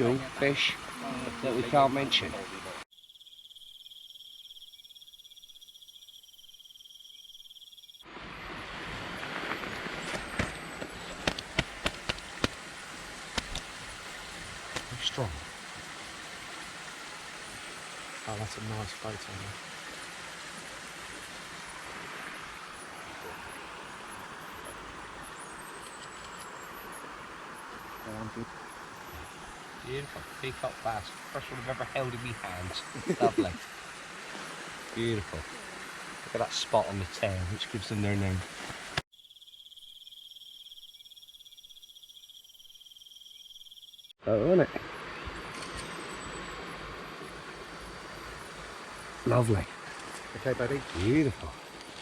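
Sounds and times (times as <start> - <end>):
outdoor hiss: 0.0 - 2.9, 7.9 - 39.1, 44.3 - 52.0
insects shrilling: 0.0 - 8.1, 9.2 - 44.2.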